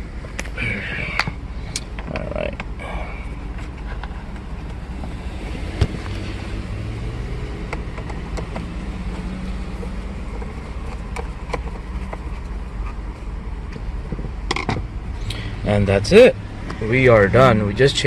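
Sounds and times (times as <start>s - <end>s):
low vehicle rumble: 0.0s - 18.0s.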